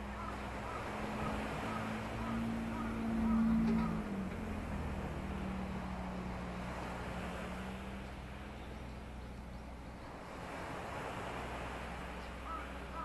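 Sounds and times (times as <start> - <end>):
engine humming: 0.0 - 13.0
surf: 0.0 - 13.0
wind: 0.0 - 13.0.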